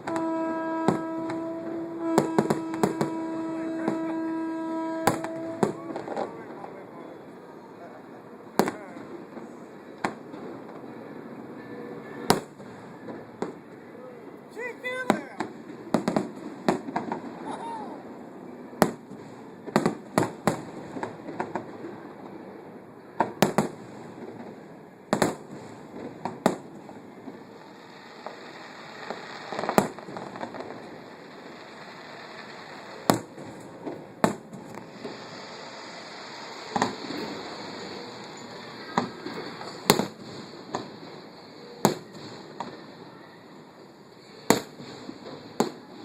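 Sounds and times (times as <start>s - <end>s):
fireworks bangs: 0.0s - 7.3s, 8.5s - 13.7s, 14.5s - 46.0s.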